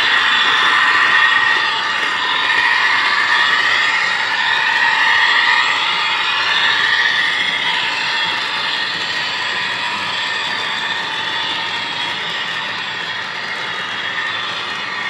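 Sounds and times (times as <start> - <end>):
model train cars rolling on track: 0.0 - 15.0.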